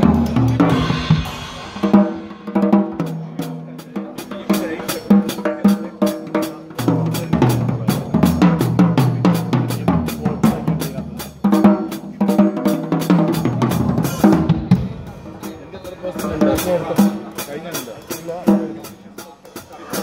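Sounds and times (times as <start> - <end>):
cymbals: 0.0 - 20.0.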